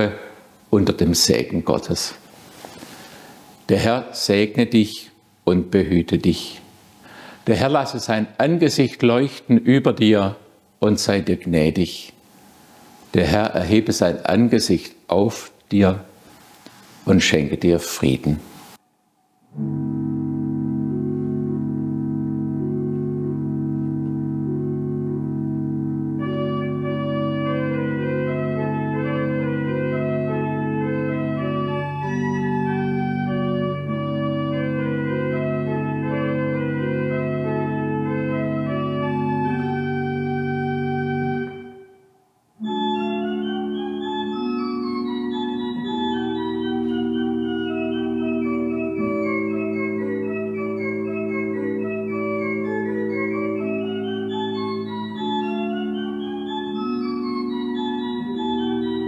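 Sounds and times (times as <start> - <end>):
church organ playing: 0.0 - 5.0, 7.1 - 9.4, 13.1 - 14.9, 19.5 - 59.0.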